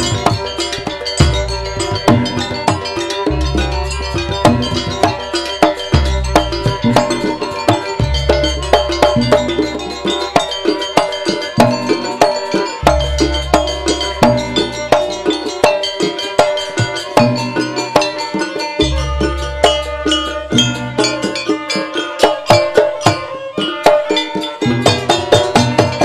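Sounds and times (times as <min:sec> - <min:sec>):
gamelan ensemble playing: 0:00.0 - 0:26.0.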